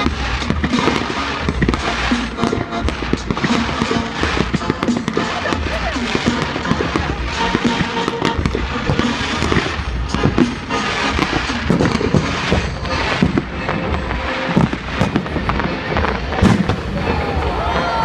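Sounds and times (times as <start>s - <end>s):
fireworks bangs and crackles: 0.0s - 18.0s
music playing: 0.0s - 18.0s.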